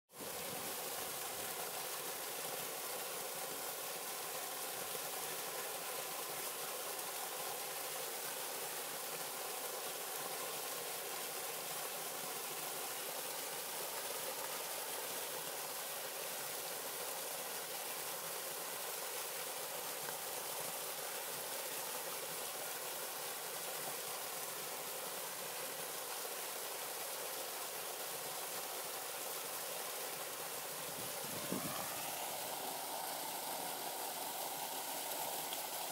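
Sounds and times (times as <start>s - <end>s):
waterfall pouring into pool: 0.1s - 35.9s.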